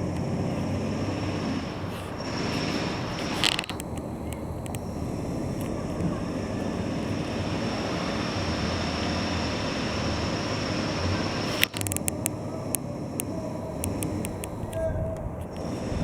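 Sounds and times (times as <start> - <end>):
sharp clicks: 0.0 - 8.6, 9.4 - 16.0
vehicle rumble in motion: 0.0 - 16.0.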